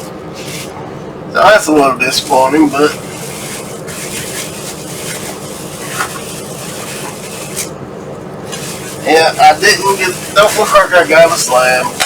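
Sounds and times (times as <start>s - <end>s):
rubbing and scraping in cardboard box: 0.0s - 0.8s, 2.0s - 7.7s, 8.5s - 12.0s.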